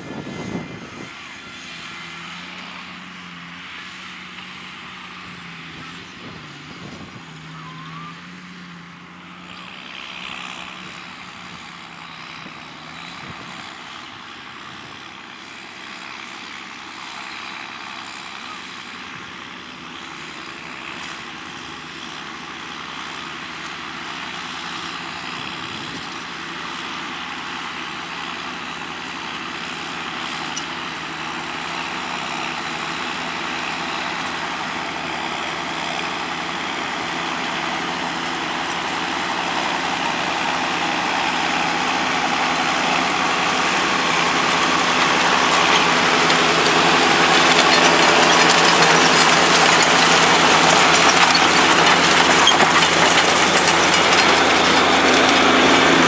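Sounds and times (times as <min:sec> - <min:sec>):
tractor diesel engines under load: 0:00.0 - 0:56.0.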